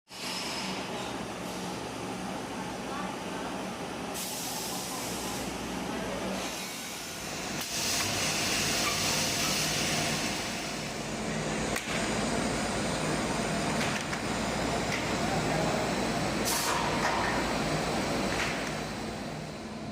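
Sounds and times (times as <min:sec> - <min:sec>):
factory machinery hiss and hum: 0:00.1 - 0:19.9.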